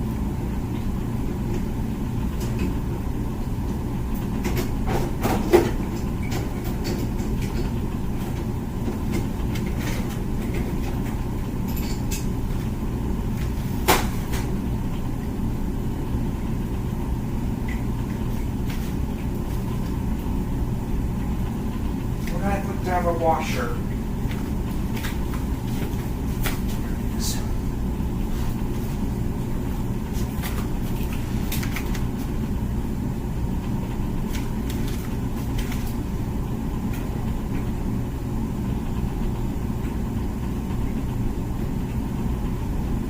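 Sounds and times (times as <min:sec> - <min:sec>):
dishwasher humming: 0:00.0 - 0:43.0.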